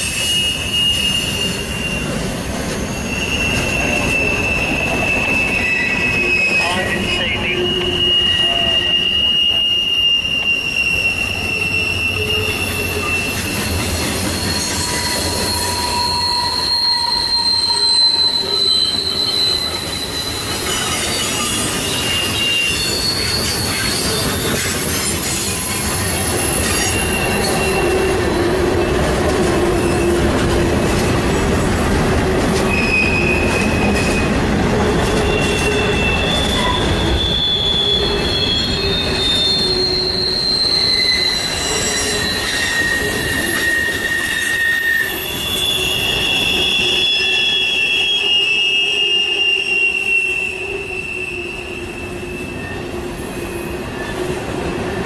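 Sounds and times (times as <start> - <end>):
high-pitched wheel squeal: 0.0 - 29.0, 32.6 - 55.0
train wheels rumbling on rails: 0.0 - 55.0.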